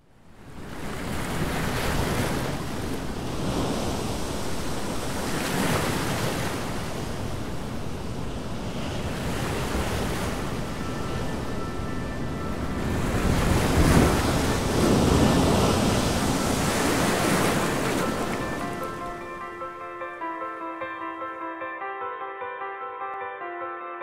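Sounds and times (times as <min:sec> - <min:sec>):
ocean surf breaking over rocks: 0:00.6 - 0:20.2.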